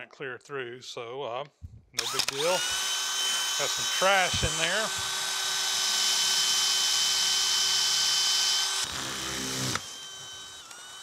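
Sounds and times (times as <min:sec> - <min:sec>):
electric drill drilling: 0:02.0 - 0:11.0.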